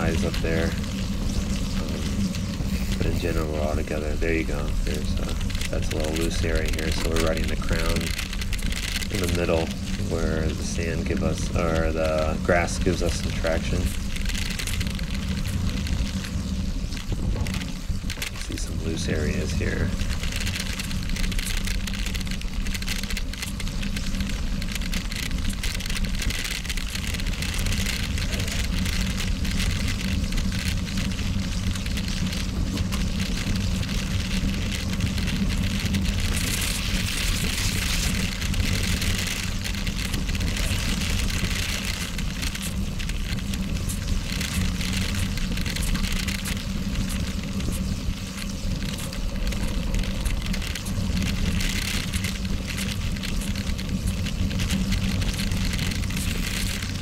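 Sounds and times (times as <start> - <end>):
bicycle tyres crunching on gravel: 0.0 - 57.0
wind noise: 0.0 - 57.0.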